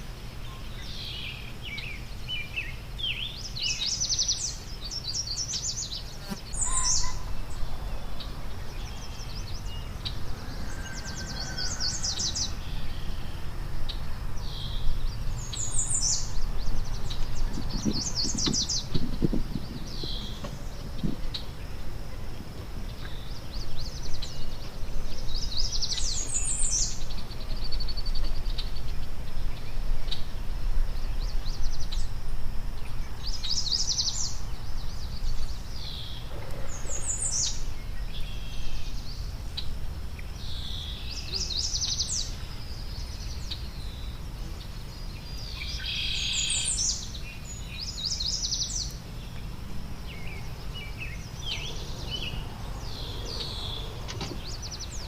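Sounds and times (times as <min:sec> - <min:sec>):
low outdoor rumble: 0:00.0 - 0:55.0
songbirds singing: 0:00.0 - 0:55.0.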